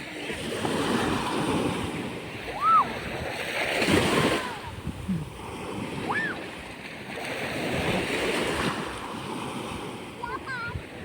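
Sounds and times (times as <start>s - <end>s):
sea waves washing up beach: 0.0s - 11.0s
wind buffeting microphone: 0.7s - 11.0s.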